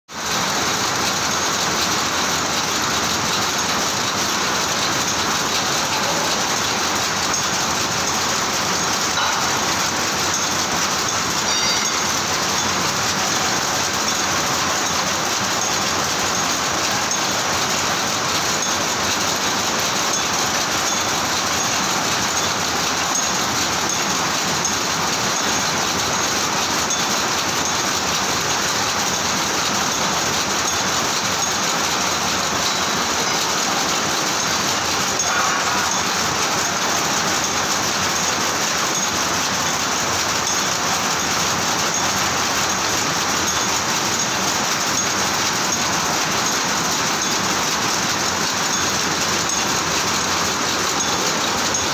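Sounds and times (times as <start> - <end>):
power loom clattering: 0.1 - 51.9.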